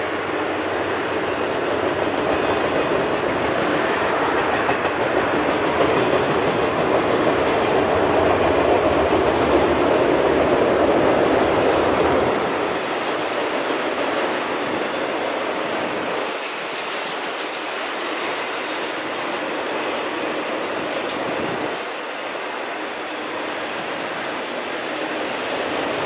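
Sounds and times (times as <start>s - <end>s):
freight train wheels rattling: 0.0s - 26.0s.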